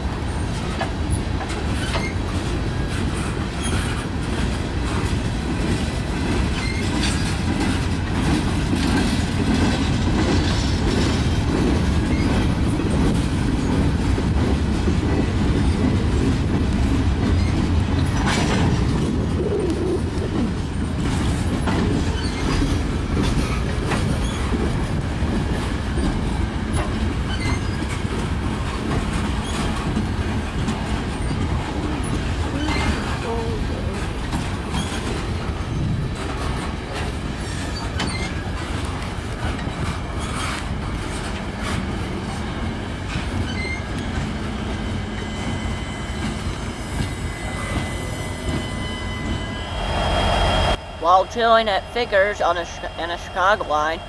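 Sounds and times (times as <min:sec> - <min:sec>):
train wheels rumbling on rail: 0:00.0 - 0:54.0
wheels clicking over rail joints: 0:00.1 - 0:45.6.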